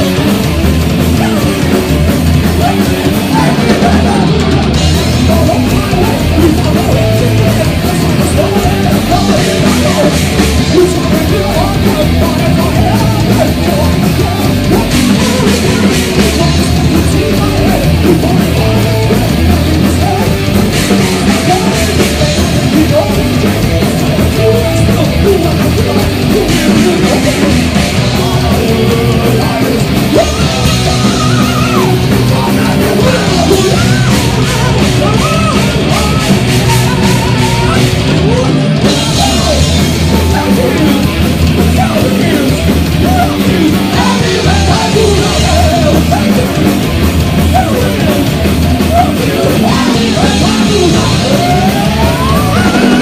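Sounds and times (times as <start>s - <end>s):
heavy metal band playing live: 0.0s - 53.0s.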